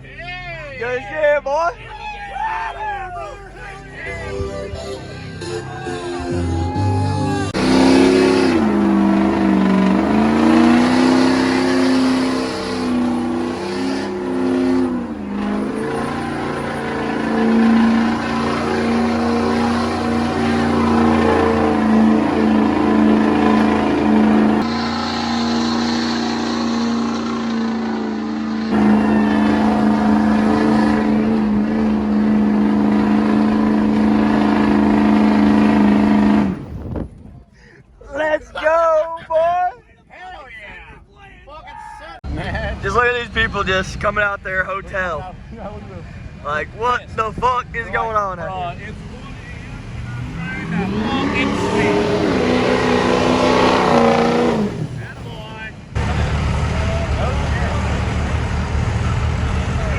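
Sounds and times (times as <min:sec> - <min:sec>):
diesel truck engine revving: 0:06.1 - 0:37.2, 0:42.2 - 0:59.9.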